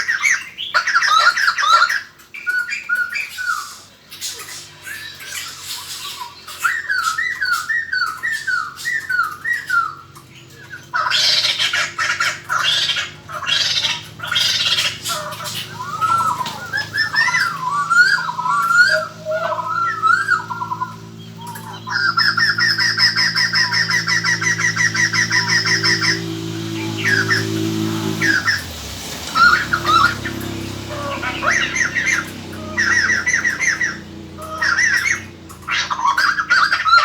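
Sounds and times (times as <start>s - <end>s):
bird whistled calls: 0.0s - 37.0s.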